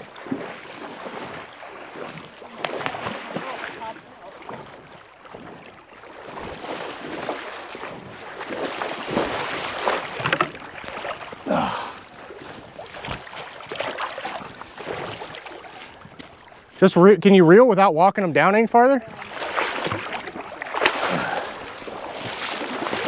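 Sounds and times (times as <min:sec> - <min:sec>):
water lapping against gravel: 0:00.0 - 0:16.8, 0:18.3 - 0:23.0.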